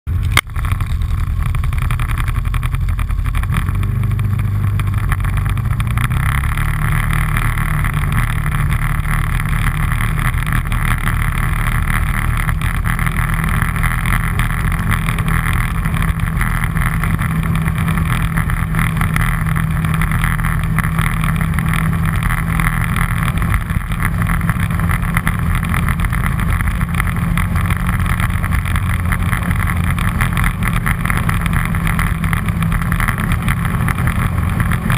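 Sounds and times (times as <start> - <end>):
all-terrain vehicle engine running: 0.1 - 34.9.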